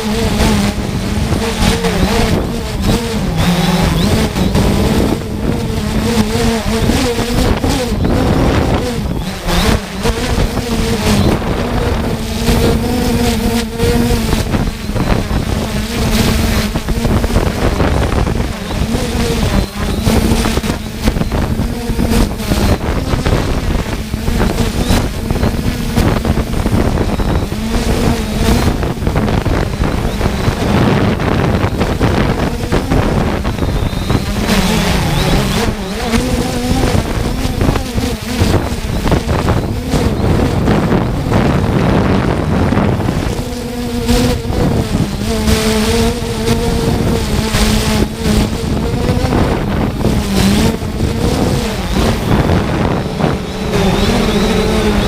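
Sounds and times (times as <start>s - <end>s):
faint drone motor hum: 0.0s - 55.0s
wind buffeting microphone: 0.0s - 55.0s.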